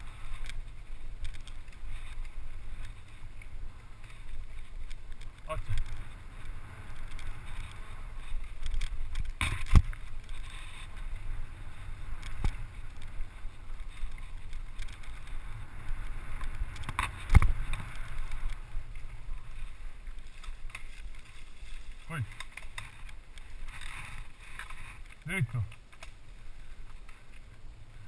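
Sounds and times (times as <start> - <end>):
bike tyres rumbling and rattling: 0.0 - 28.0.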